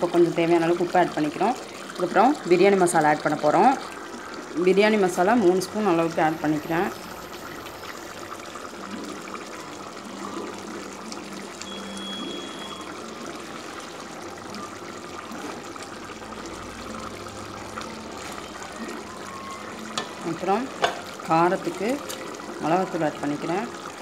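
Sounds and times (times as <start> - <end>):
food sizzling in a pot: 0.0 - 24.0.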